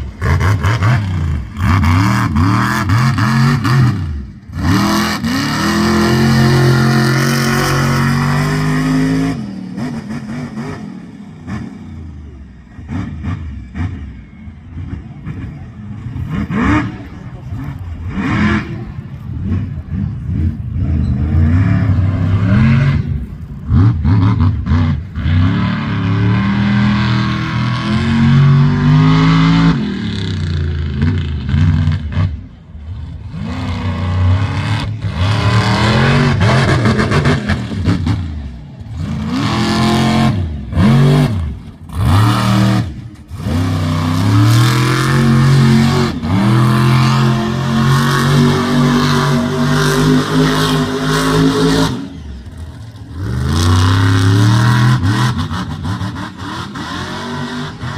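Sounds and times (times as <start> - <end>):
monster truck engine revving: 0.0 - 57.9.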